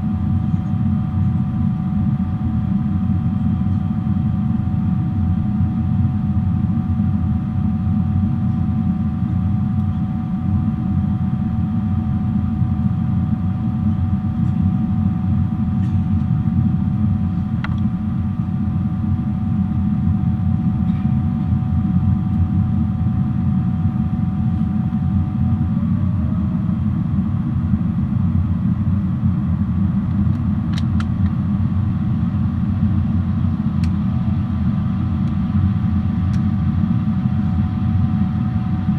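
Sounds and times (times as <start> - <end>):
airliner cabin rumble: 0.0 - 38.9
faint engine whine: 0.0 - 38.9.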